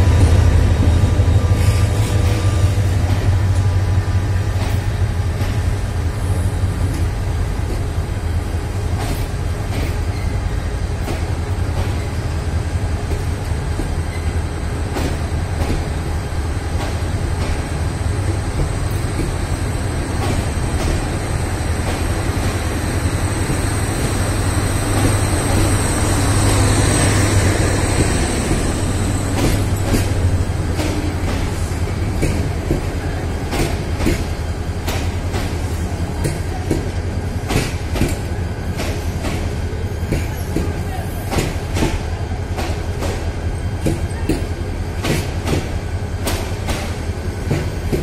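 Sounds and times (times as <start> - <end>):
train rolling rumble: 0.0 - 48.0.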